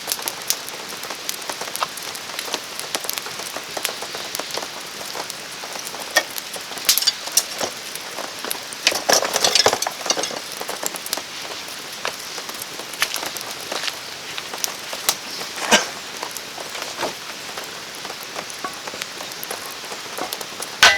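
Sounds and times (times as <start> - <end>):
campfire crackling and snapping: 0.0 - 20.9
rain pattering: 0.0 - 20.9.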